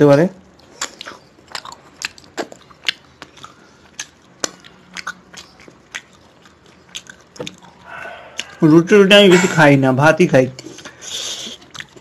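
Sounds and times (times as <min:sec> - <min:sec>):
wet chewing and lip-smacking: 0:00.4 - 0:09.0, 0:10.5 - 0:12.0.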